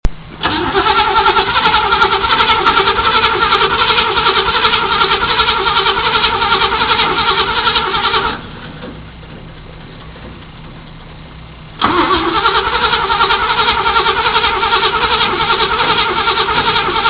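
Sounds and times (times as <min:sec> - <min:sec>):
car starter cranking engine: 0:00.2 - 0:10.2, 0:11.6 - 0:17.0.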